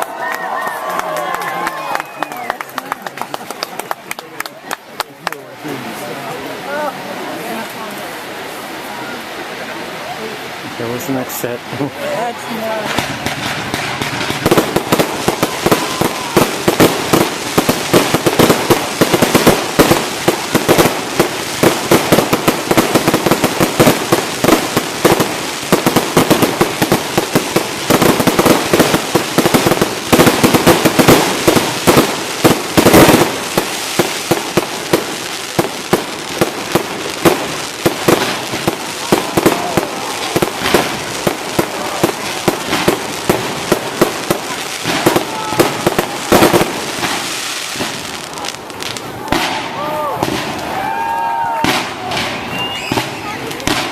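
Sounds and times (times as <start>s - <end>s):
fireworks bangs and crackling pops: 0.0s - 9.2s, 10.0s - 53.9s.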